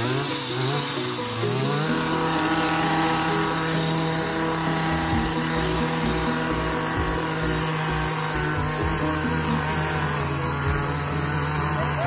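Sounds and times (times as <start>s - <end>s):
string trimmer engine running: 0.0s - 12.0s.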